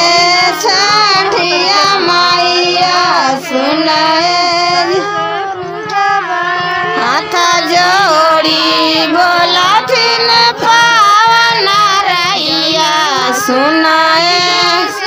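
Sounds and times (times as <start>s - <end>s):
woman singing devotional song: 0.0s - 15.0s.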